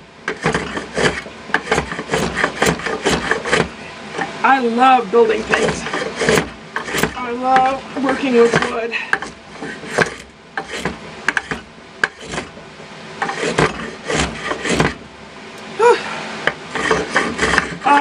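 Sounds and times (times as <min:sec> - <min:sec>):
hand tool scraping wooden board: 0:00.3 - 0:04.4, 0:05.2 - 0:12.6, 0:13.2 - 0:15.1, 0:16.4 - 0:18.0.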